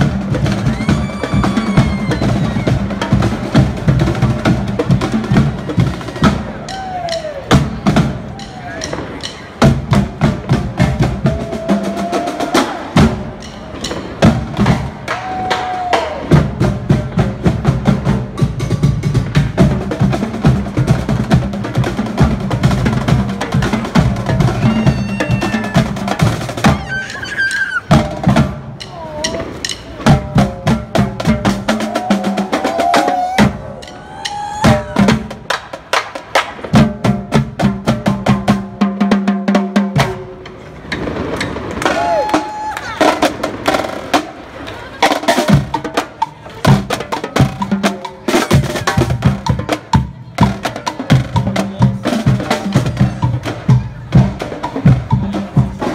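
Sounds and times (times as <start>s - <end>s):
snare and tenor drums playing: 0.0s - 55.9s.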